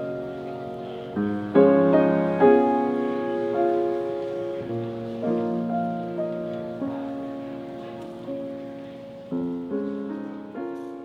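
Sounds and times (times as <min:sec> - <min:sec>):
slow gentle piano piece: 0:00.0 - 0:11.0.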